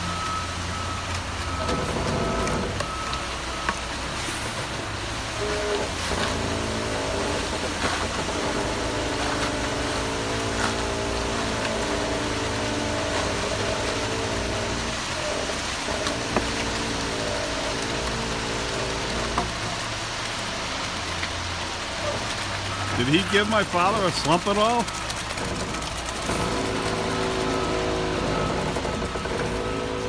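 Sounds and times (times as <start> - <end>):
truck engine rumble: 0.0 - 30.0.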